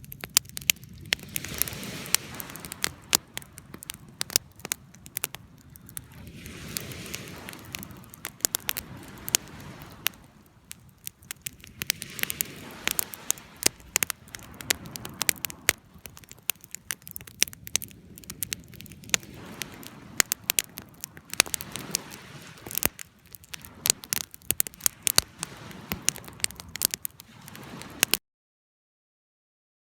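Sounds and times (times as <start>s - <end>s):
campfire crackling and popping: 0.0s - 28.2s.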